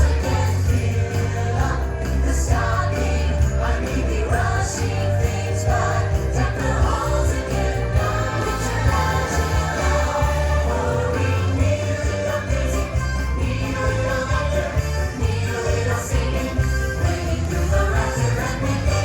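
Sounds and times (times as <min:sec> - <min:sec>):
choir singing: 0:00.0 - 0:19.0
tinkling metal shaker rhythm: 0:00.0 - 0:19.0.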